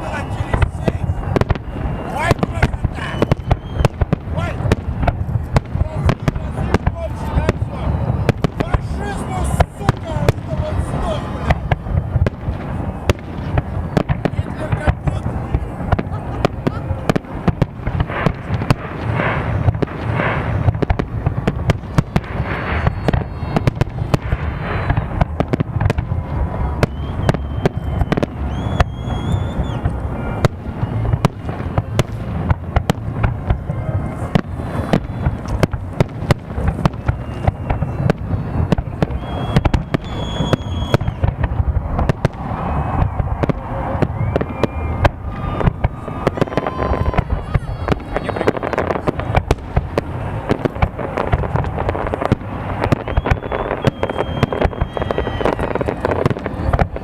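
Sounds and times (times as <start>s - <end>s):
fireworks booming and crackling: 0.0s - 57.0s.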